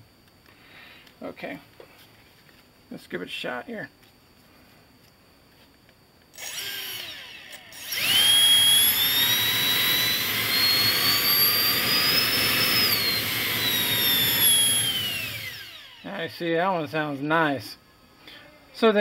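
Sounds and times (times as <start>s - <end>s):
electric ducted fan whine: 0.0s - 19.0s.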